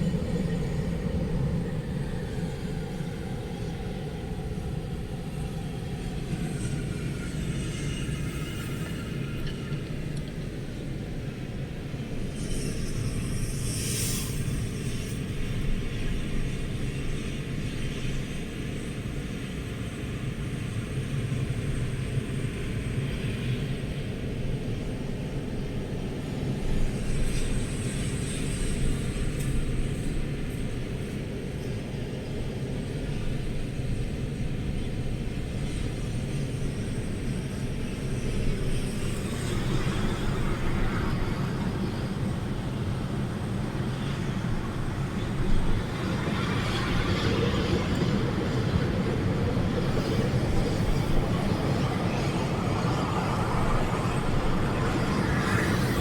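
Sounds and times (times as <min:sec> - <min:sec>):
storm wind buffeting microphone: 0:00.0 - 0:56.0.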